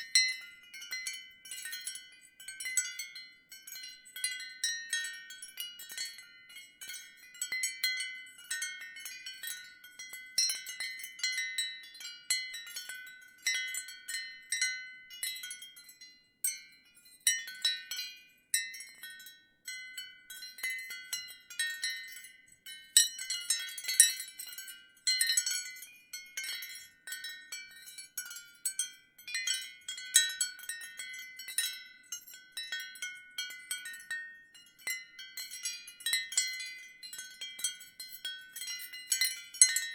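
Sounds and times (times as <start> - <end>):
ceramic wind chime tinkling: 0.0 - 39.9.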